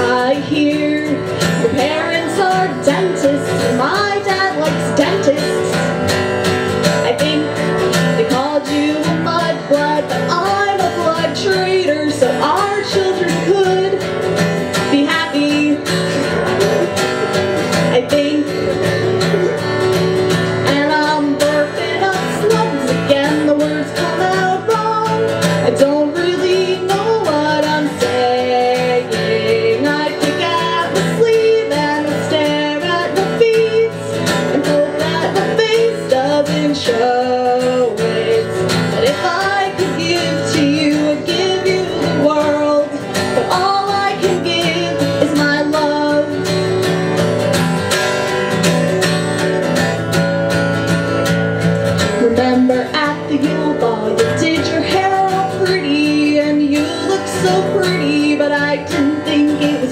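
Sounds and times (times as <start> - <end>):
woman singing: 0.0 - 47.5, 52.0 - 59.9
acoustic guitar strumming: 0.0 - 59.9.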